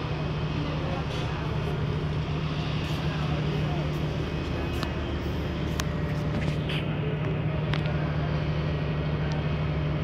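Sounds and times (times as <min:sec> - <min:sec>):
ship machinery droning: 0:00.0 - 0:10.0.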